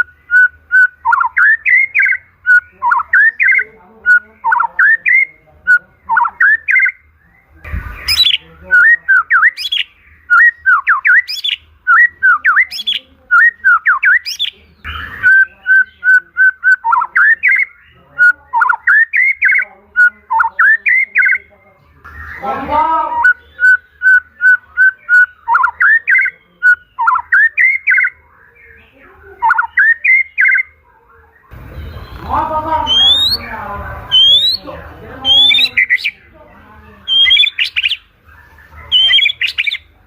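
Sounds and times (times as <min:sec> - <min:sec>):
bird singing whistled notes: 0:00.0 - 0:36.3, 0:37.0 - 0:40.0.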